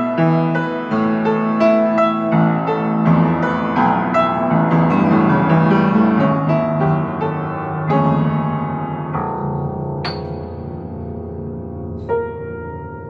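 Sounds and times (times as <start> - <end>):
piano improvisation: 0.0 - 13.0.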